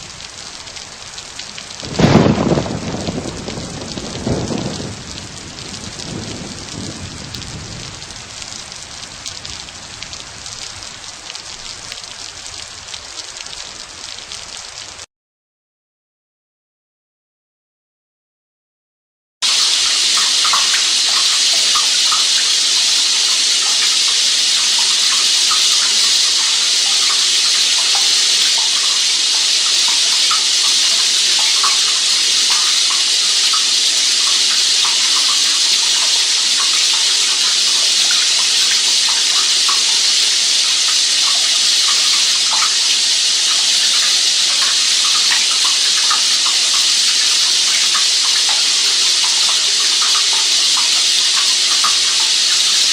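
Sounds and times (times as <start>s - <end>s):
running water rushing: 0.0s - 15.0s, 19.4s - 52.9s.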